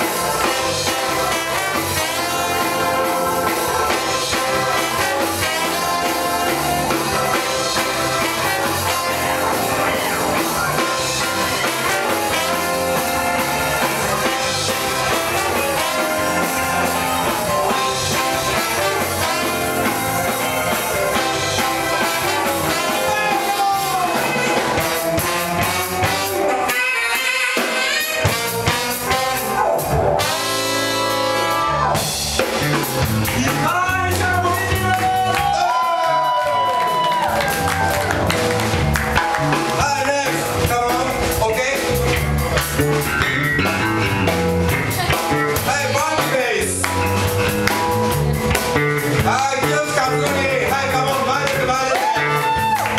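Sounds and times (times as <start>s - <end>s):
funk music: 0.0s - 52.9s.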